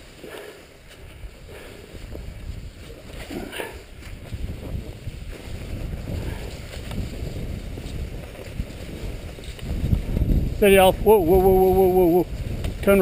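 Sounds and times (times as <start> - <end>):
skis gliding on snow: 0.0 - 13.0
wind rumbling on microphone: 0.0 - 13.0.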